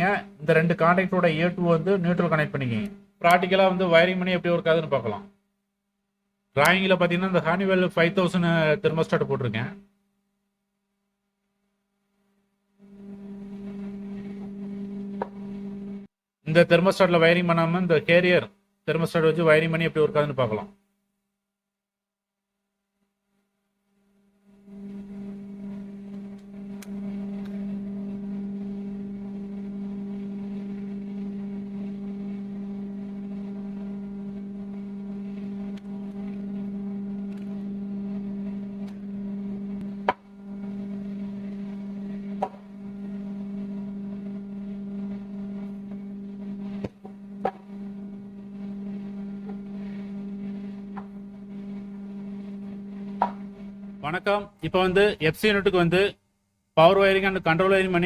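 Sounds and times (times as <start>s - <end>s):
electrical mains hum: 0.0s - 21.0s, 22.7s - 58.0s.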